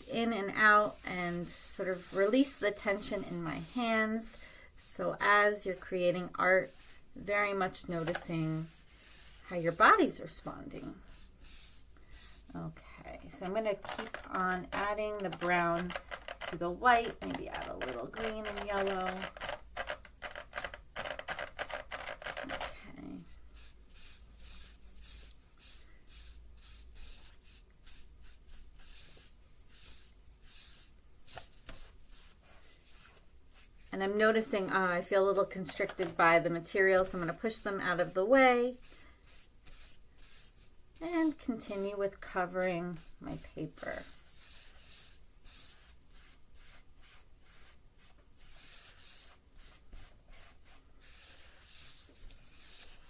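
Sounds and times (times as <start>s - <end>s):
sponge rubbing on paper: 0.0s - 12.6s, 13.4s - 33.9s, 35.8s - 53.0s.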